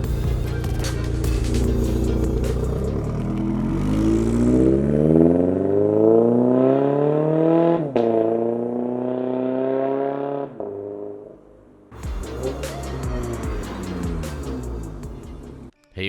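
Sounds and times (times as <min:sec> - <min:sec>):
car engine accelerating: 0:00.0 - 0:15.7.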